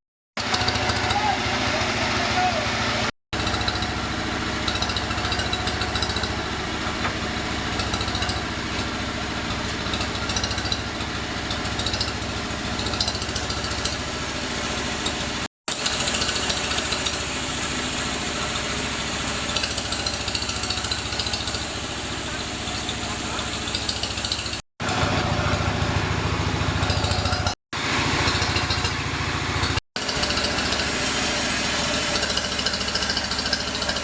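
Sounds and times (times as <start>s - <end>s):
sawmill machinery engine drone: 0.4s - 34.0s.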